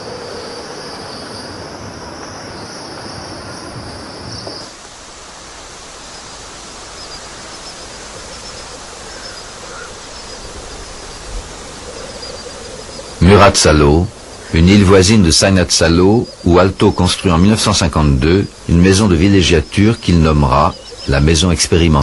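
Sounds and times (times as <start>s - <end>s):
high insect trill: 0.0s - 22.0s
steady hiss: 0.0s - 22.0s.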